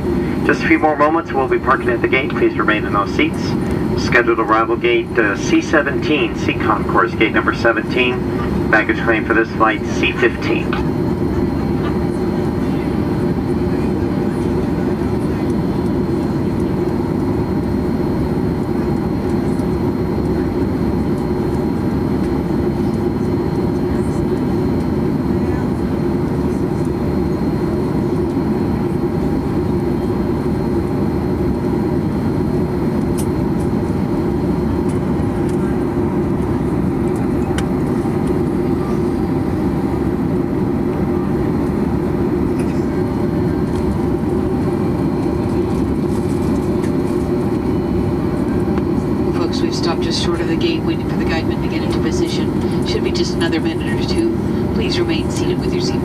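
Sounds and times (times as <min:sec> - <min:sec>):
jet engines idling rumble: 0:00.0 - 0:56.0.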